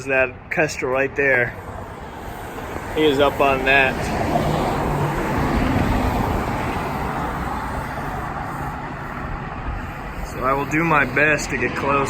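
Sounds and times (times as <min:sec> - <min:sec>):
vehicle passing: 0:01.3 - 0:12.0.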